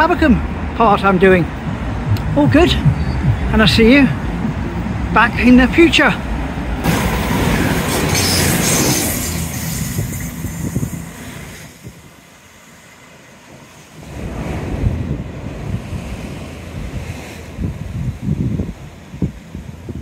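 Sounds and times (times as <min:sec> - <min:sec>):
diesel train passing: 0:00.0 - 0:17.3
wind buffeting microphone: 0:00.2 - 0:12.2, 0:13.8 - 0:20.0.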